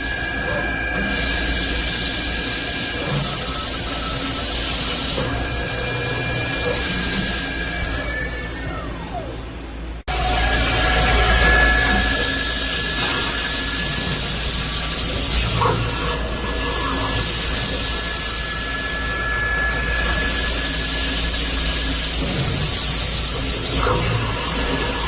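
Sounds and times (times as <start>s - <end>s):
drilling machine hissing and whining: 0.0s - 25.0s.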